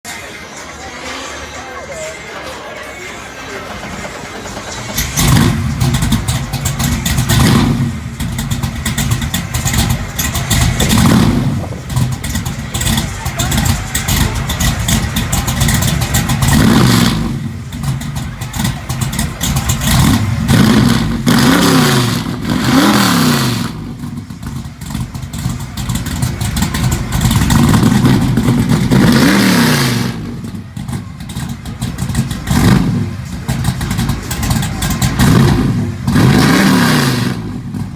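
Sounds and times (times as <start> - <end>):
engine revving in blips: 3.4 - 37.9.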